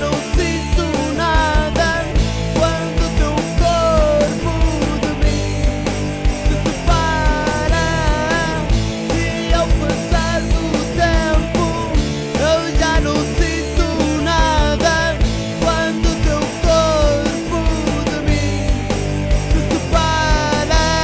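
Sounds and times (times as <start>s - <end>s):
drum hits: 0.0s - 21.0s
low bass part: 0.0s - 21.0s
rock band playing: 0.0s - 21.0s
sliding lead melody: 0.0s - 21.0s.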